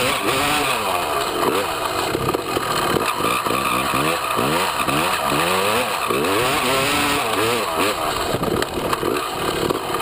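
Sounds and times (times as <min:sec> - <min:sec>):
dirt bike engine revving: 0:00.0 - 0:10.0
wind and tyre noise: 0:00.0 - 0:10.0.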